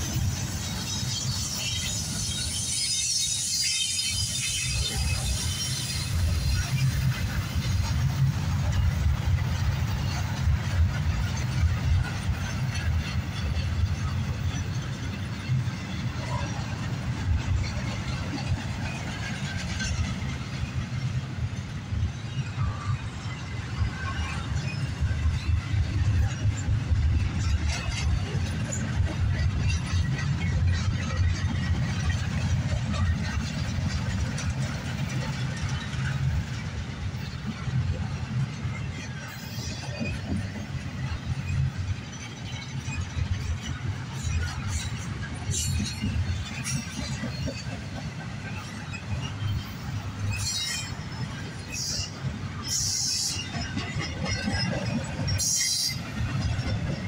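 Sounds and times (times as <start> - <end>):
train cars rumbling on rails: 0.0 - 57.0.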